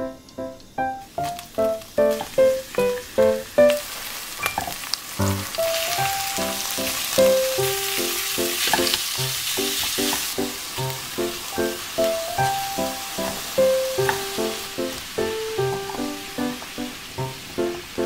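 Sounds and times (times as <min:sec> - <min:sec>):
light plucked background music: 0:00.0 - 0:03.9, 0:04.5 - 0:18.0
meat sizzling in hot oil: 0:01.1 - 0:18.0
spatula stirring in frying pan: 0:01.2 - 0:18.0.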